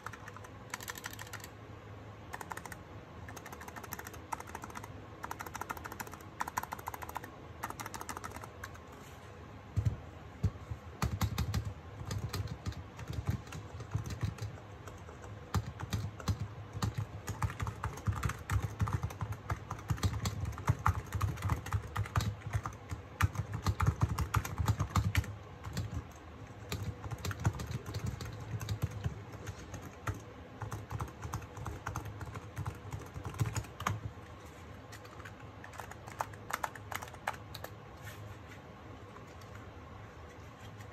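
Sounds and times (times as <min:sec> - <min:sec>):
fast keyboard typing: 0:00.0 - 0:01.5, 0:02.3 - 0:08.9, 0:09.8 - 0:37.8, 0:39.2 - 0:39.7.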